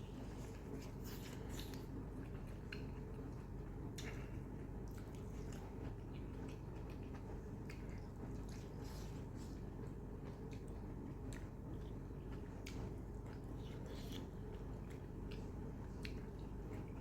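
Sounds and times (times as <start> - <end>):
low background hum: 0.0 - 17.0
wet chewing: 0.2 - 3.4, 4.0 - 17.0.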